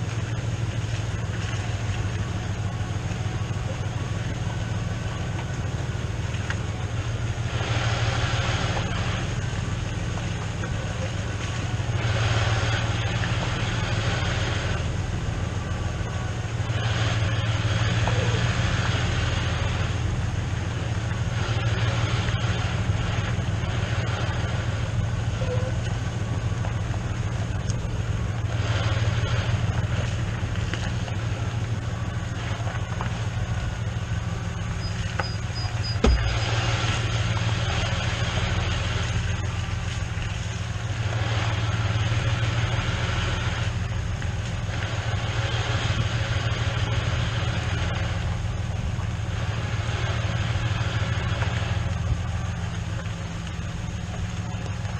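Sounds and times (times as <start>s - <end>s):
vehicle engine droning: 0.0s - 54.9s.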